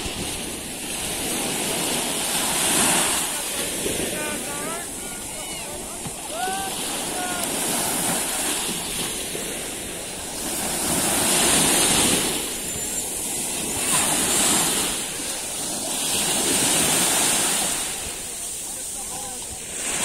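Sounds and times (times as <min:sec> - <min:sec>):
waves breaking on sandy beach: 0:00.0 - 0:20.0.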